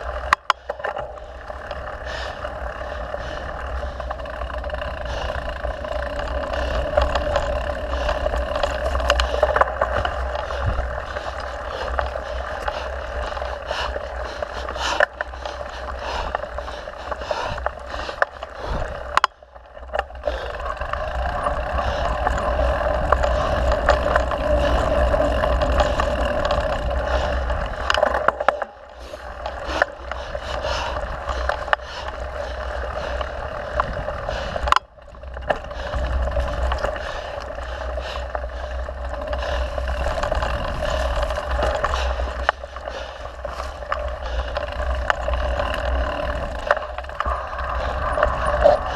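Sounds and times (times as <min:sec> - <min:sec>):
mountain bike riding on dirt trail: 0:00.0 - 0:48.9
sharp clicks and knocks from bumps: 0:00.0 - 0:48.9.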